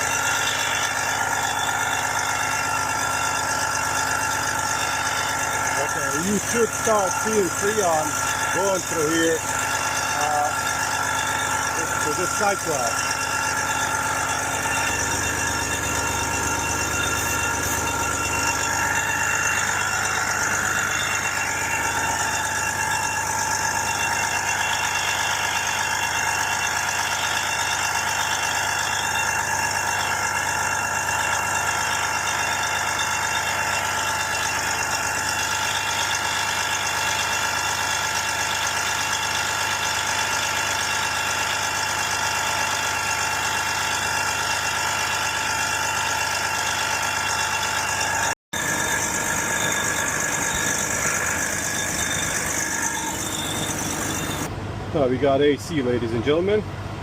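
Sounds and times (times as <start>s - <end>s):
whining tones: 0.0s - 41.5s, 42.1s - 54.6s
diesel truck engine idling: 0.0s - 57.0s.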